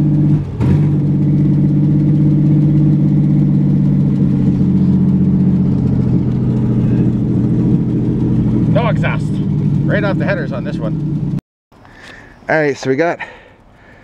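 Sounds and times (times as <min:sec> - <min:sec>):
truck engine loud rumble: 0:00.0 - 0:11.4.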